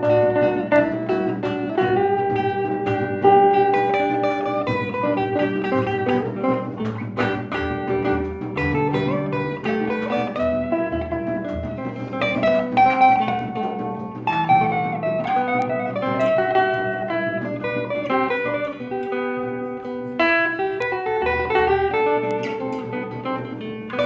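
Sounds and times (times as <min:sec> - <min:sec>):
plucked string instruments melody: 0:00.0 - 0:24.0.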